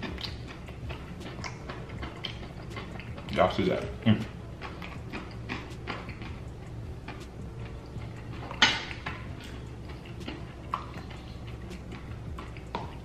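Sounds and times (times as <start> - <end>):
mouth smacks while eating: 0.0 - 3.4, 4.6 - 13.0
steady low hum: 0.0 - 13.0.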